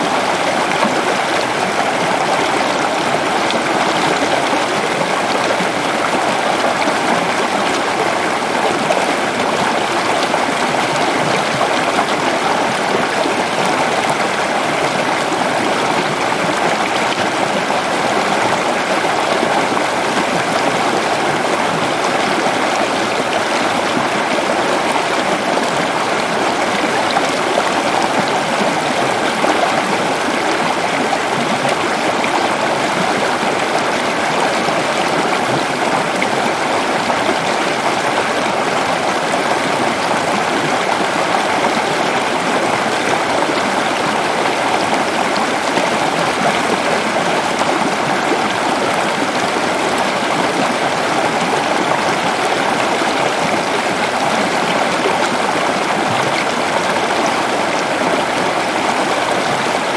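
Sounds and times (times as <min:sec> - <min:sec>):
waterfall and rushing stream: 0:00.0 - 0:59.9.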